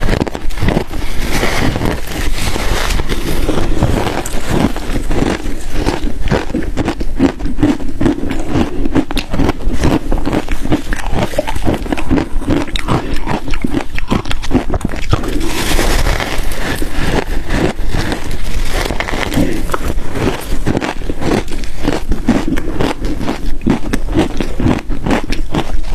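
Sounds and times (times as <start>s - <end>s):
ice being chewed and crunched: 0.0s - 25.9s.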